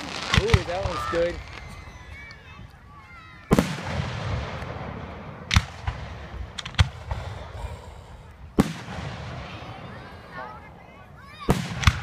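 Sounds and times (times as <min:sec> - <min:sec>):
fireworks booming with echo: 0:00.0 - 0:02.2, 0:03.4 - 0:12.0.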